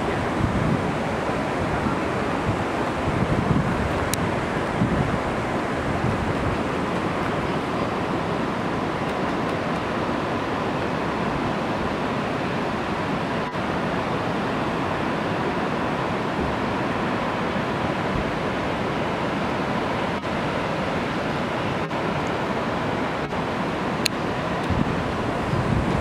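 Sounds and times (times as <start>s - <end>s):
waterfalls roaring: 0.0s - 26.0s.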